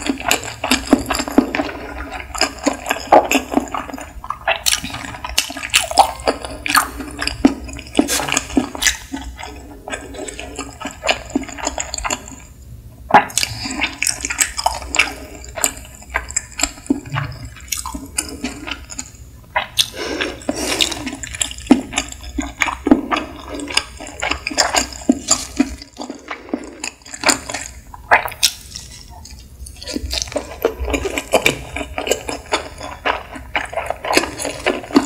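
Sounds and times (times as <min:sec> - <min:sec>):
wet chewing and mouth sounds: 0:00.0 - 0:35.0.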